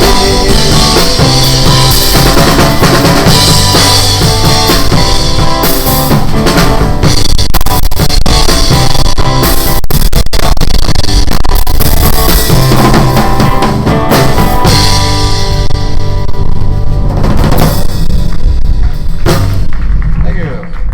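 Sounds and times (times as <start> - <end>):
electric guitar playing: 0.0 - 19.7
drum kit: 0.0 - 20.7.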